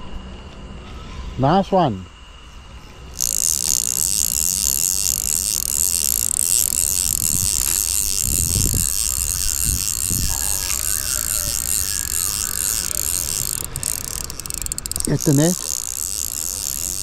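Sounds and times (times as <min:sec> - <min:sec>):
fishing reel drag buzzing: 0:03.1 - 0:17.0.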